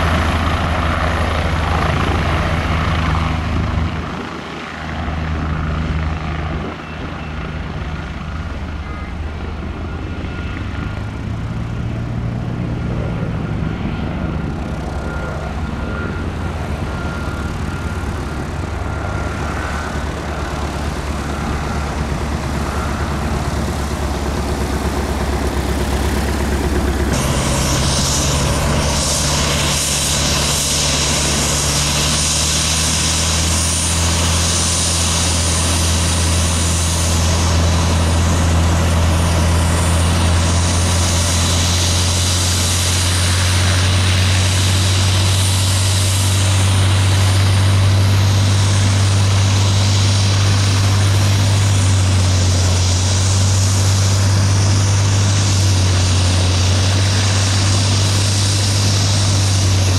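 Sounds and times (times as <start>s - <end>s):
helicopter rotor thrum: 0.0s - 59.9s
turbine whine: 0.0s - 59.9s.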